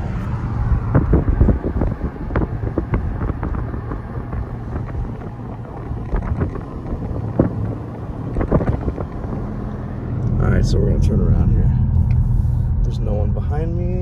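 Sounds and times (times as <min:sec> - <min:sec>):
car road and engine rumble: 0:00.0 - 0:14.0
wind buffeting microphone: 0:00.0 - 0:14.0.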